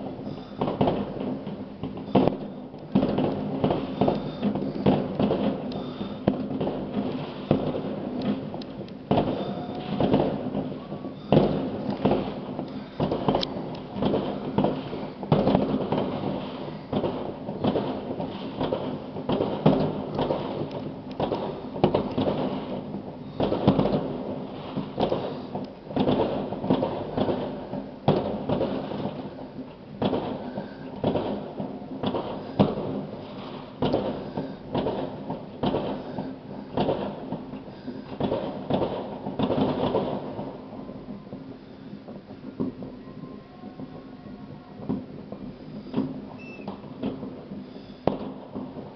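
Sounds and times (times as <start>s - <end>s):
fireworks bangs and booms: 0.0s - 48.9s.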